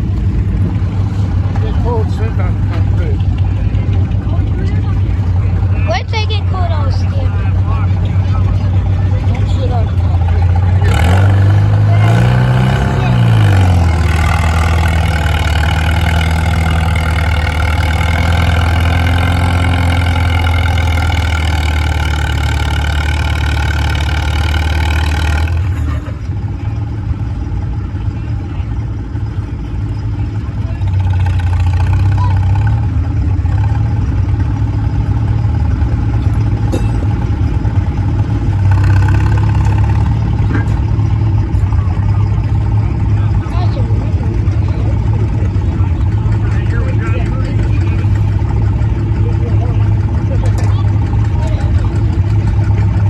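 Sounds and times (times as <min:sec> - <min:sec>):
quieter engine running: 0:00.0 - 0:53.0
tractor engine at full throttle: 0:00.0 - 0:53.0.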